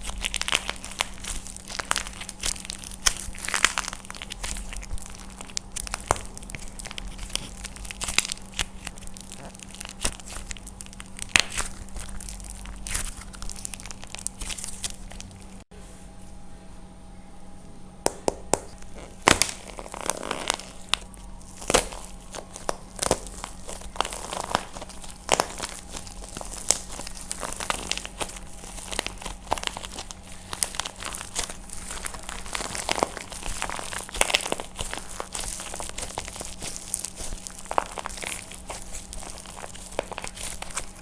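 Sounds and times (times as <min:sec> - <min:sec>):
dried clay cracking and crunching: 0:00.0 - 0:15.7, 0:18.1 - 0:41.0.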